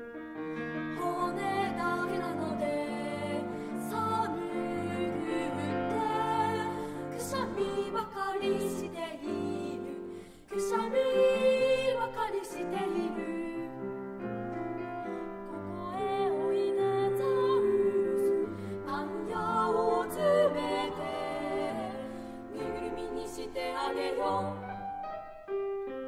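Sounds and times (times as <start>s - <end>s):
piano accompaniment: 0.0s - 26.0s
children's choir singing: 1.0s - 13.7s, 16.0s - 25.0s.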